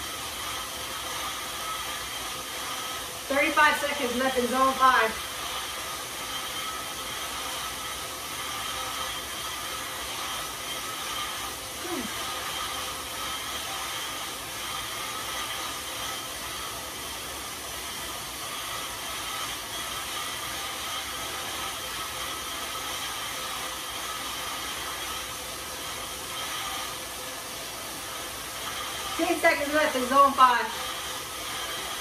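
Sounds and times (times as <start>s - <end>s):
bike tyres whirring on rollers: 0.0s - 32.0s.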